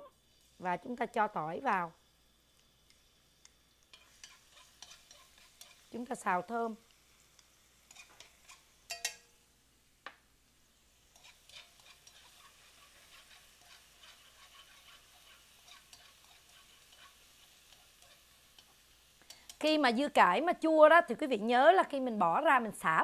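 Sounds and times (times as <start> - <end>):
garlic frying in oil: 0.0 - 23.0.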